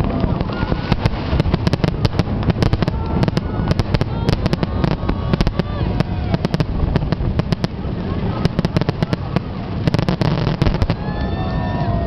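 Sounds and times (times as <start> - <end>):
fireworks cracks and bangs: 0.0 - 12.0
low rumble: 0.0 - 12.0.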